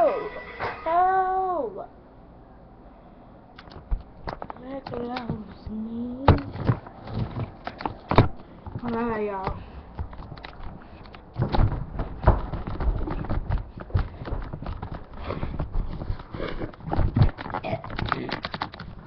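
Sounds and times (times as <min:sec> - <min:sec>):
irregular taps clicks and thumps: 0:03.6 - 0:19.0.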